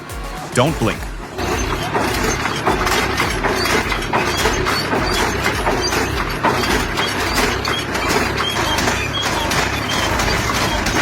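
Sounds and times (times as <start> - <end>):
tractor engine straining: 0.5 - 11.0
clatter of clicks and cracks: 1.4 - 11.0.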